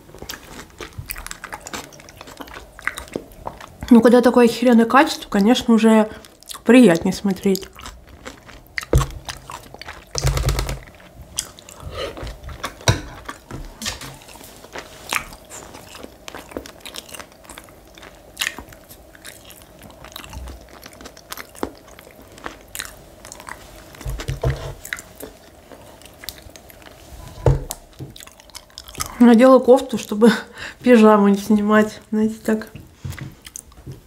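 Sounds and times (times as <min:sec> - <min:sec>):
chewing and crunching food: 0:00.0 - 0:34.0.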